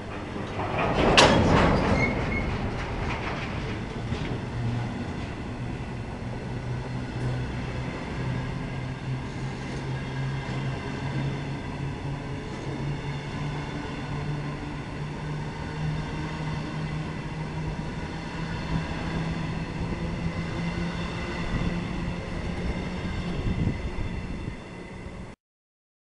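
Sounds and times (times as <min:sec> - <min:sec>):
train wheels rumbling on rails: 0:00.0 - 0:25.4.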